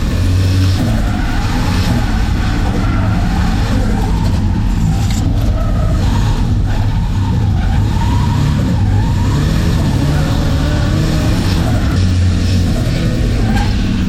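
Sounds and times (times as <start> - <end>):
car engine revving: 0.0 - 14.0
tyres skidding: 0.0 - 14.0.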